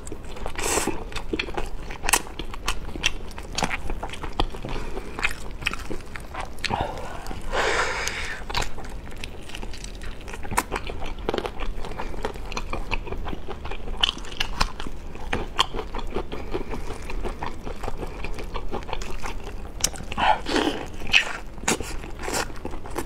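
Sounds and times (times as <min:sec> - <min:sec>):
chewing: 0:00.0 - 0:23.0.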